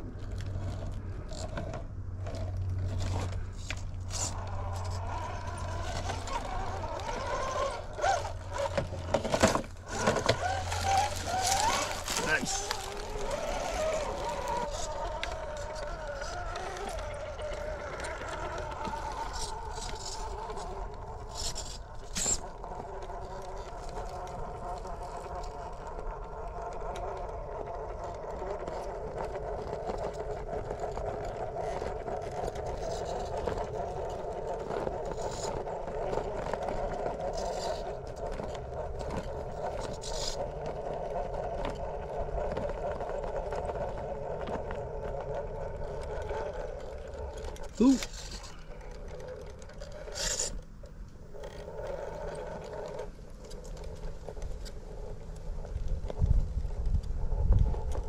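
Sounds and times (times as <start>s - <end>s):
toy car motor whining: 0.3s - 58.0s.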